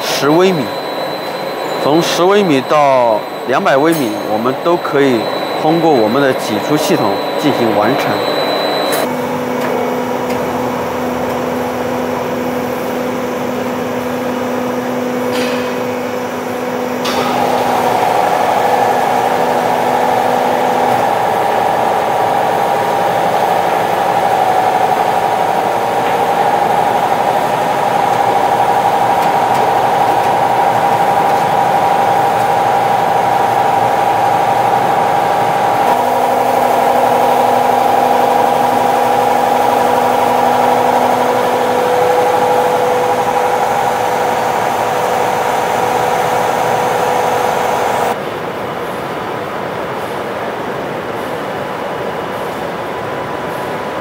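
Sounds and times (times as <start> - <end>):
high-pitched machine whine: 0.0 - 48.2
machine motors droning: 0.0 - 48.2.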